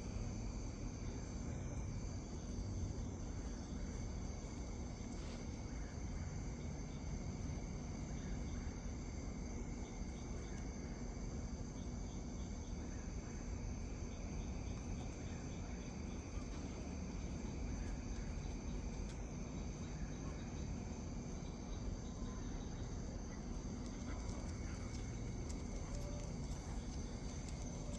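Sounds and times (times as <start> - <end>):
crickets trilling: 0.0 - 27.9
low steady rumble: 0.0 - 27.9
rapid insect chirps: 0.2 - 27.9.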